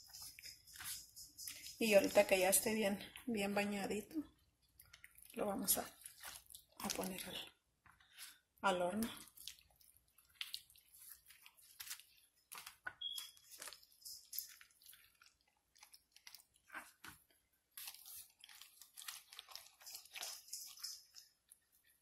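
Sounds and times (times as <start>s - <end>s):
wet squishing of hand on meat: 4.3s - 22.0s.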